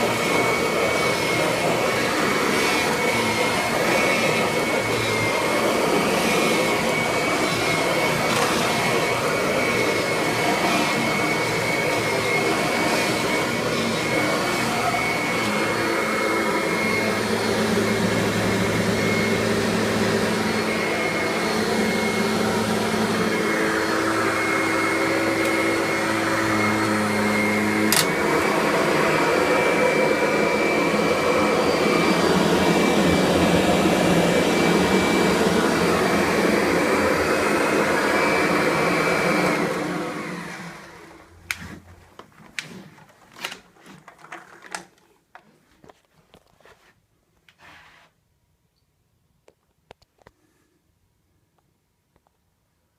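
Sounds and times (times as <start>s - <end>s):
vacuum cleaner running: 0.0s - 46.4s.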